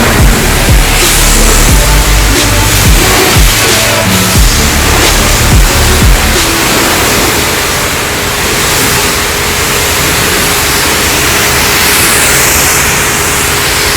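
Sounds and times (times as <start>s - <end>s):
pressure washer hissing: 0.0s - 13.9s
thin steady tone: 0.0s - 13.9s.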